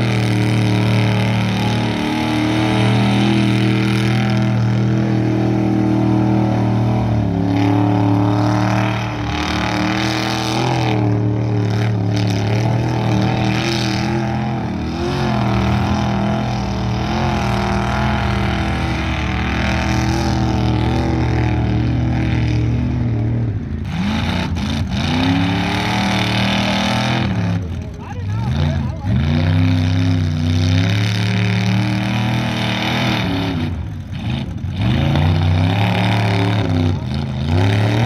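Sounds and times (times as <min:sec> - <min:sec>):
truck churning through mud: 0:00.0 - 0:38.0
truck engine revving: 0:00.0 - 0:38.0.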